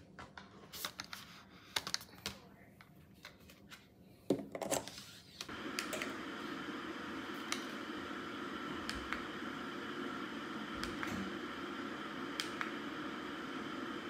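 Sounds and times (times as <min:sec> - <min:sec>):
steady background hum: 0:01.4 - 0:14.0.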